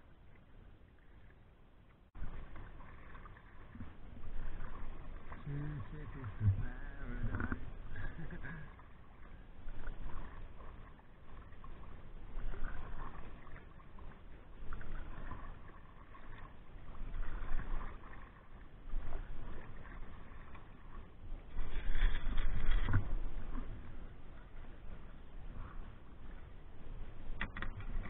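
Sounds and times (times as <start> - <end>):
paddle splashing in water: 0.0 - 28.0.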